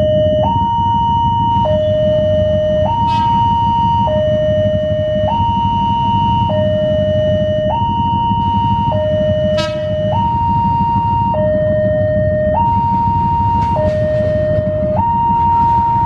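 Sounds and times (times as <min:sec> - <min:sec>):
level crossing two-tone alarm: 0:00.0 - 0:16.0
low rumble: 0:00.0 - 0:16.0.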